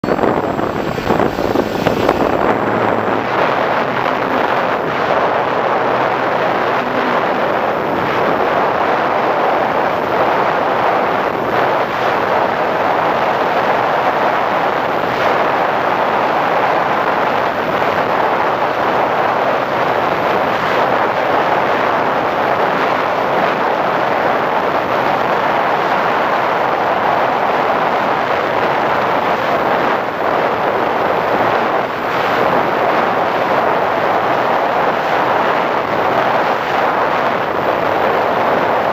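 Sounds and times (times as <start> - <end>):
airflow and propeller motor: 0.0 - 38.9.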